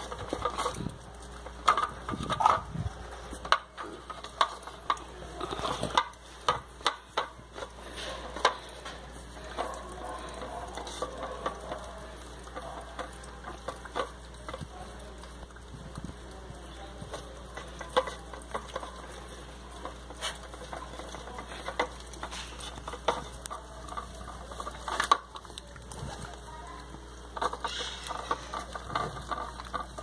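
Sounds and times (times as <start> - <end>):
ice clicking against plastic bowl: 0.0 - 30.0.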